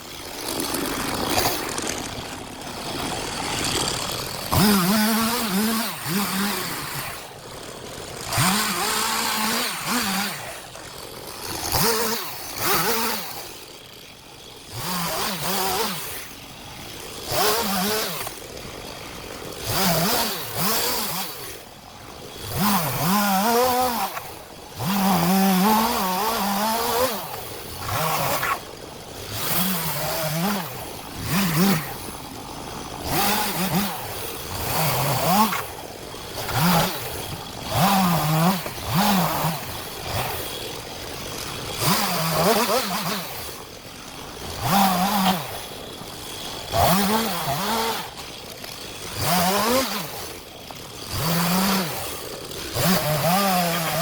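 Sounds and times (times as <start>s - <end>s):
chainsaw revving and cutting wood: 0.0s - 54.0s.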